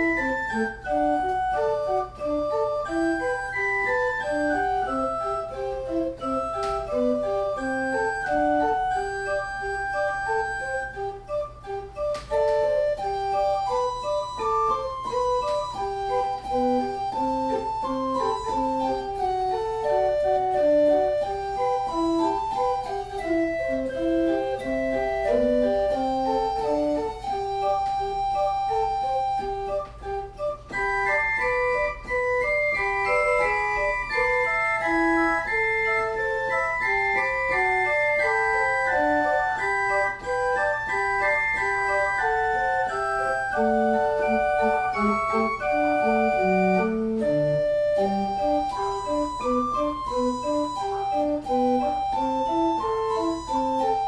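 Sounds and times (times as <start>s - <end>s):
pipe organ playing: 0.0s - 54.0s.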